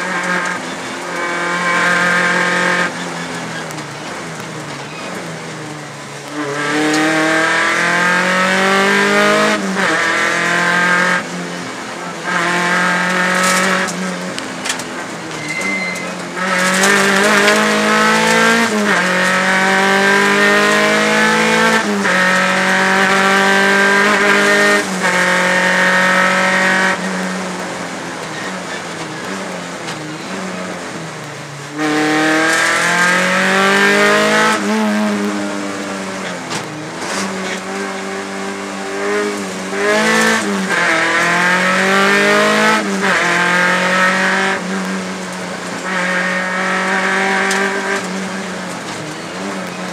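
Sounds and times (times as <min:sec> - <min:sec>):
rally car engine accelerating: 0:00.0 - 0:49.9.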